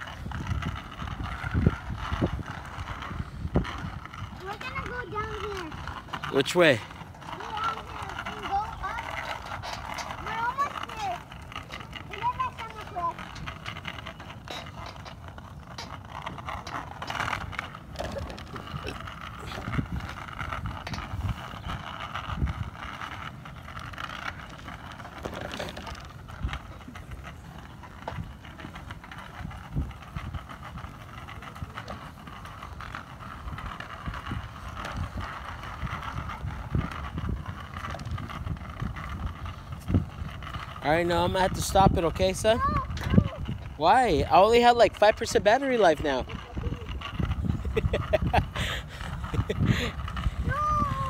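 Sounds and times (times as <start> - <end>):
bicycle rolling and rattling: 0.0 - 51.0
wind buffeting microphone: 0.0 - 51.0.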